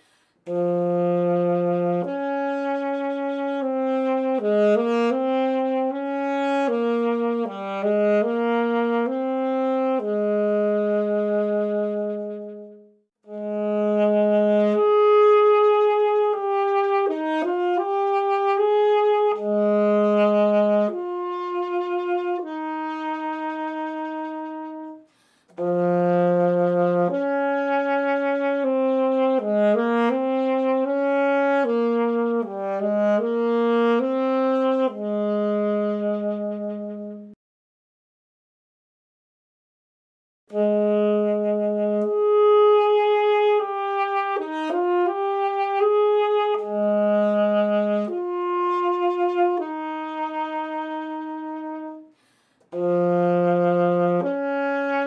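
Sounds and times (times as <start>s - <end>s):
alto saxophone melody: 0.4s - 37.4s, 40.5s - 55.0s.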